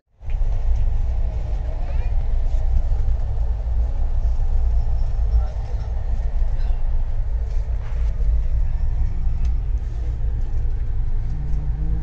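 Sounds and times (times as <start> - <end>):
train rumbling in motion: 0.2 - 12.0.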